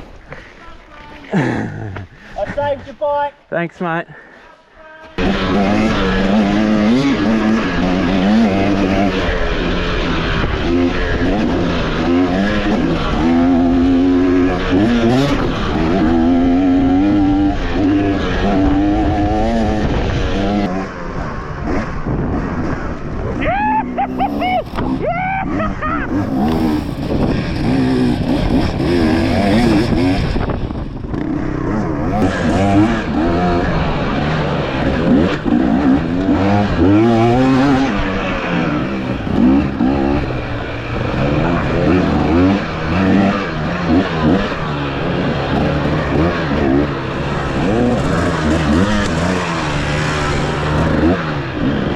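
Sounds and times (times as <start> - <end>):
dirt bike engine revving: 5.2 - 51.9.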